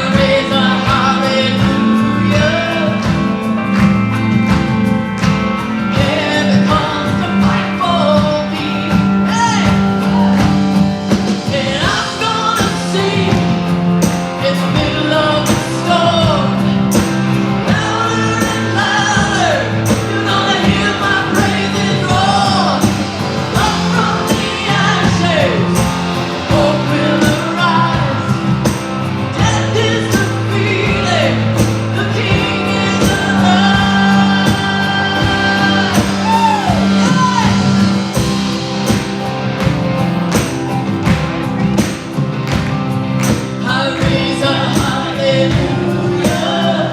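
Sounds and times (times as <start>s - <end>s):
person singing: 0.0s - 4.0s, 5.6s - 38.4s, 43.4s - 46.9s
rock band playing: 0.0s - 46.9s.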